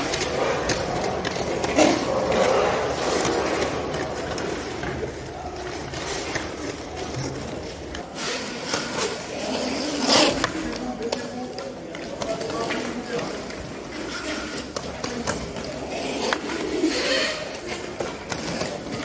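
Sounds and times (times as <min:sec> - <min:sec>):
roller skate wheels rolling: 0:00.0 - 0:19.0.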